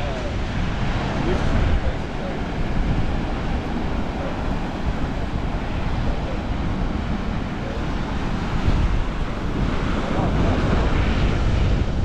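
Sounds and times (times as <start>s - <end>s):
steady outdoor rush of noise: 0.0s - 12.0s
wind buffeting the microphone: 0.0s - 12.0s.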